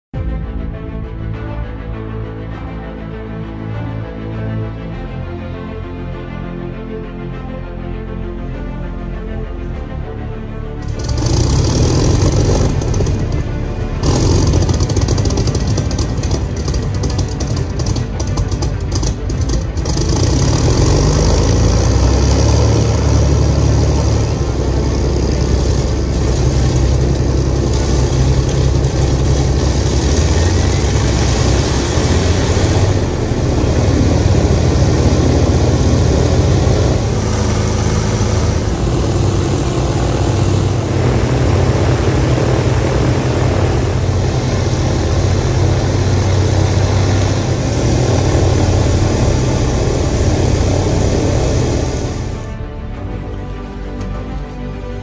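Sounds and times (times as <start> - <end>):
piston aircraft engines running: 0.0 - 55.0.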